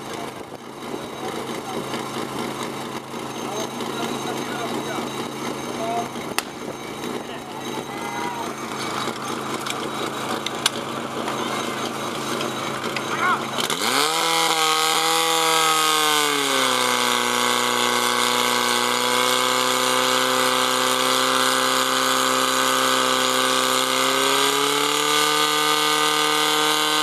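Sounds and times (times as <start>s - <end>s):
fire pump engine running hard: 0.0s - 27.0s.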